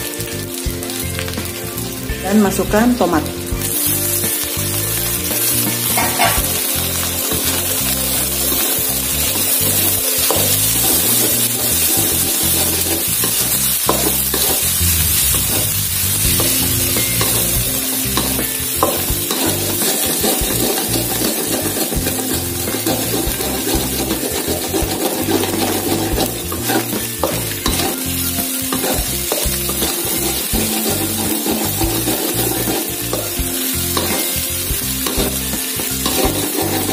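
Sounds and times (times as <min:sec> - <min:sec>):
food sizzling in a wok: 0:00.0 - 0:36.9
spatula stirring and scraping: 0:03.7 - 0:36.9.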